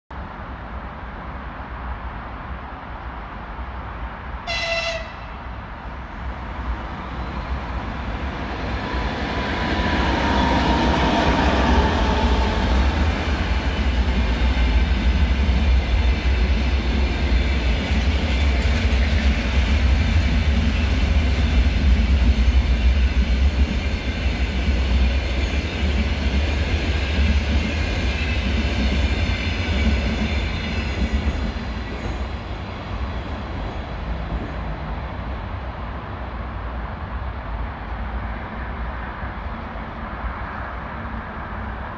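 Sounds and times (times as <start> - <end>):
wheels rumbling on rails: 0.1 - 41.9
passenger train passing: 0.2 - 41.9.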